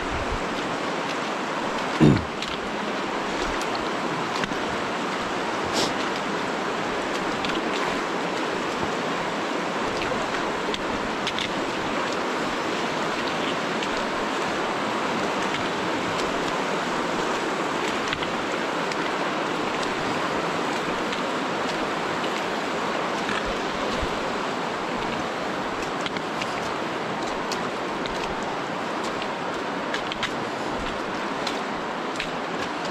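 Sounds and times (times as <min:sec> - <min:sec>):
river rushing: 0:00.0 - 0:32.9.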